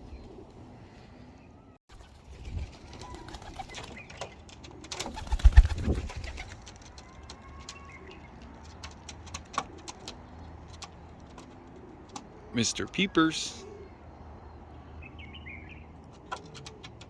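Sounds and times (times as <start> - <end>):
pigeons cooing: 0.0 - 14.6, 16.0 - 17.0.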